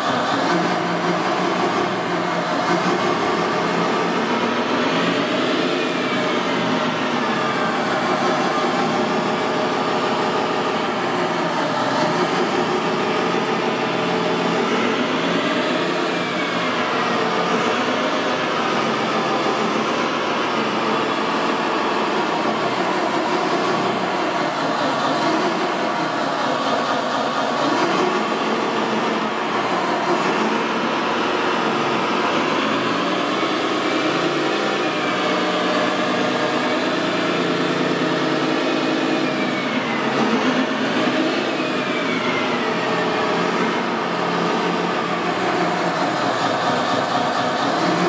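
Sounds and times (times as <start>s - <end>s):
electric motors and pump whirring: 0.0s - 48.0s.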